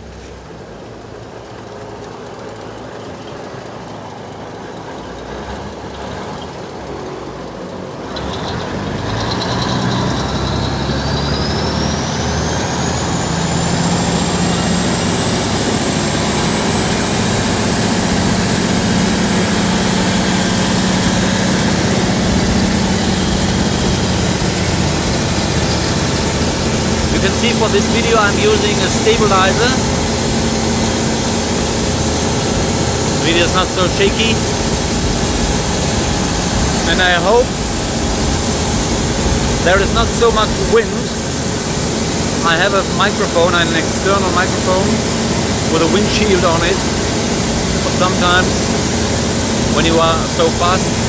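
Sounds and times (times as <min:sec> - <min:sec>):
boat engine running: 0:00.0 - 0:51.0
high whine: 0:00.0 - 0:51.0.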